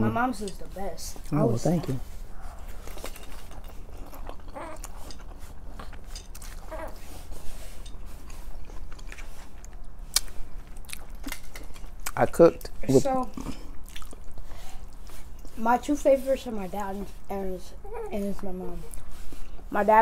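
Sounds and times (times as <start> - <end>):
wet chewing: 0.5 - 17.3, 18.4 - 19.9.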